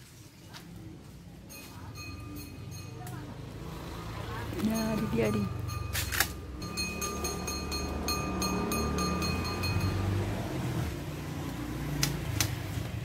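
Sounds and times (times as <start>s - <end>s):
vehicle engine humming: 0.8s - 13.0s.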